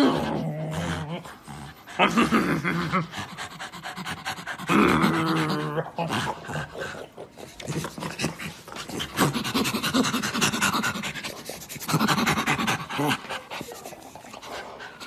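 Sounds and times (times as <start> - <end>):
chimpanzee panting: 1.2 - 15.0.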